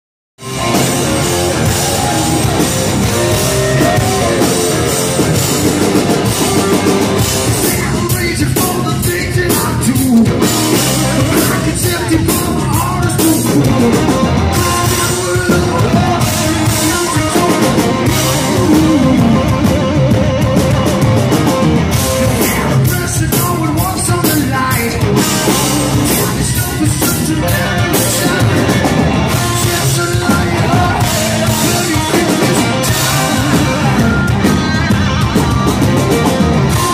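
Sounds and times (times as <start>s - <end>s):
live rock band playing: 0.4s - 36.9s.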